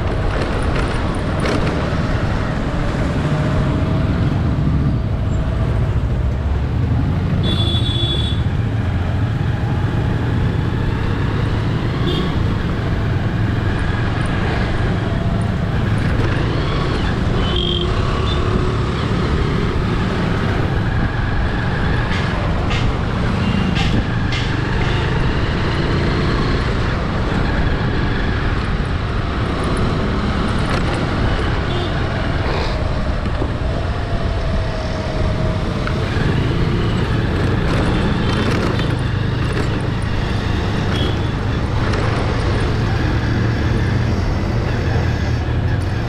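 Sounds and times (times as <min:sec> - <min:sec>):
passing vehicle engines: 0:00.0 - 0:46.0.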